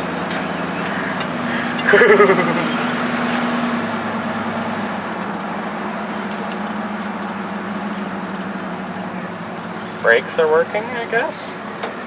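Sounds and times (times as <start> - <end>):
pickup truck engine: 0.0 - 12.0
road noise: 0.0 - 12.0.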